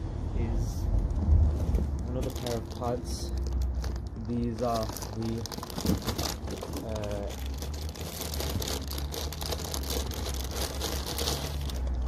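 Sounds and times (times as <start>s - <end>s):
packaging crinkling and rustling: 1.1s - 12.0s.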